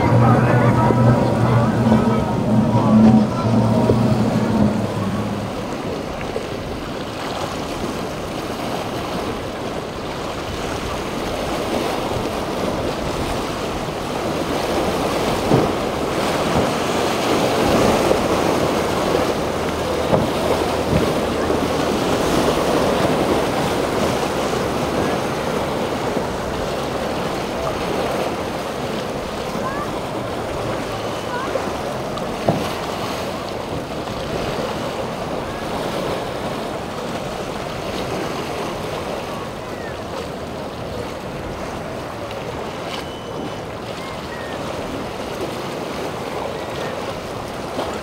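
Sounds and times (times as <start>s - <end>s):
waves breaking: 0.0s - 48.0s.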